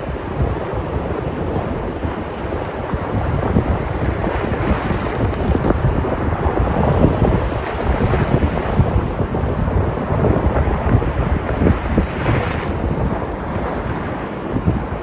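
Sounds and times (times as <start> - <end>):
sea surf breaking on shore: 0.0 - 15.0
wind buffeting microphone: 0.0 - 15.0.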